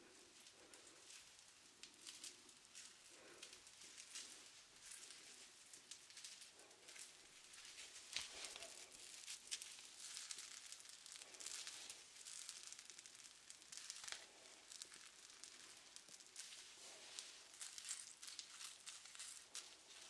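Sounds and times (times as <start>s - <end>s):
close crackling and rustling: 0.0s - 20.0s.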